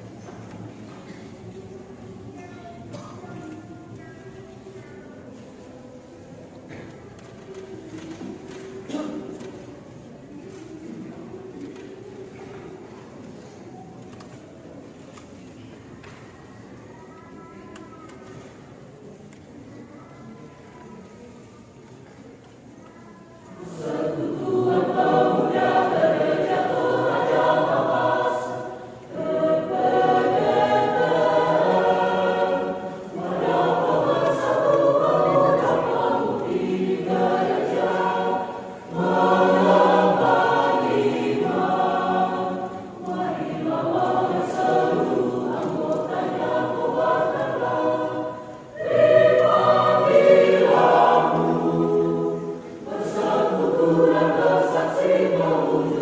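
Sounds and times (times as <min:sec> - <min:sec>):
church choir singing in parts: 0:03.1 - 0:16.9, 0:23.4 - 0:56.0.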